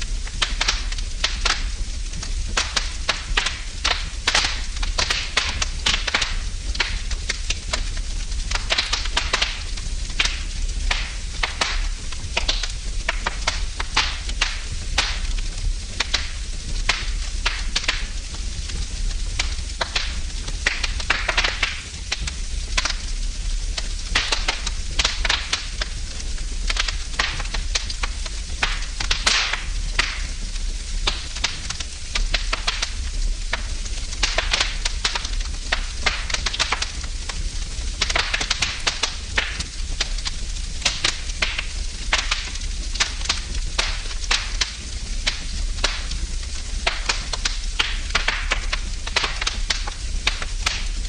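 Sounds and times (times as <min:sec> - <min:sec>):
fire hiss and low rumble: 0:00.0 - 0:51.0
wood fire crackling and popping: 0:00.0 - 0:51.0.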